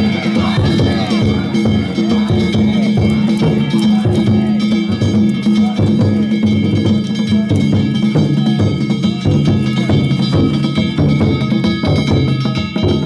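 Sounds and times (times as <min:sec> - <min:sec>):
metal gongs ringing: 0:00.0 - 0:13.0
taiko drums: 0:00.0 - 0:13.0.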